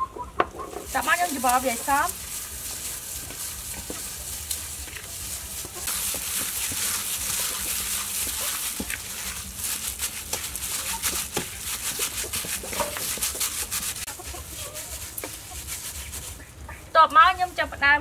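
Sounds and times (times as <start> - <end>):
chickens clucking: 0.0 - 9.5, 10.3 - 17.0
plastic glove crinkling: 0.7 - 17.9
wet squishing of minced meat: 0.8 - 16.9.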